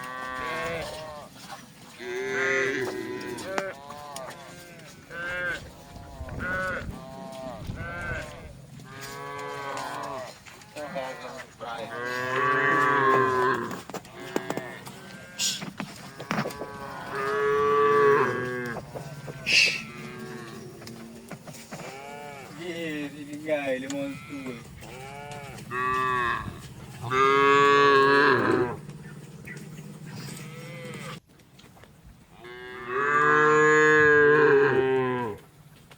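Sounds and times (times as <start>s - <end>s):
cattle mooing: 0.0s - 1.3s, 2.0s - 23.0s, 23.6s - 31.2s, 32.4s - 35.4s.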